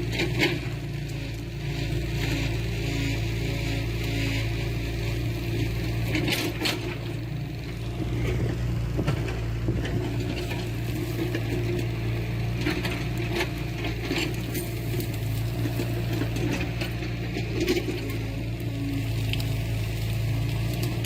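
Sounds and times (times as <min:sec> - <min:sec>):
heavy machinery diesel engine: 0:00.0 - 0:21.0.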